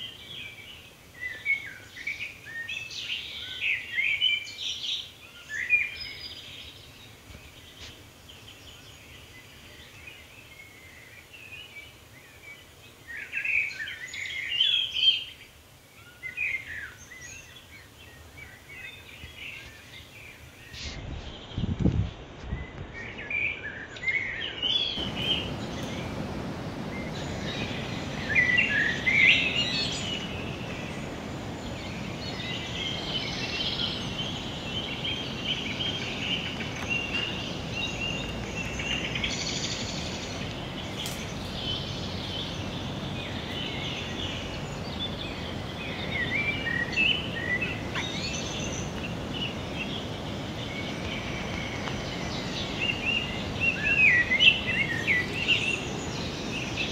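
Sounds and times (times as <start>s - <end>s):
steady background hiss: 0.0s - 56.9s.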